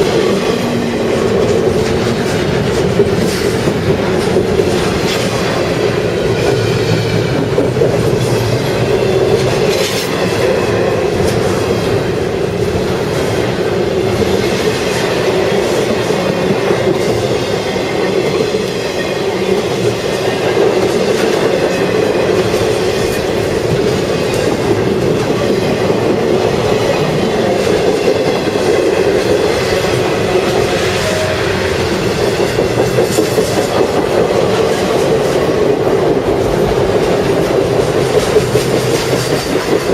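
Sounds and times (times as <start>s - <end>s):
freight train cars rolling past: 0.0s - 39.9s
wheels clacking over rail joints: 0.0s - 39.9s.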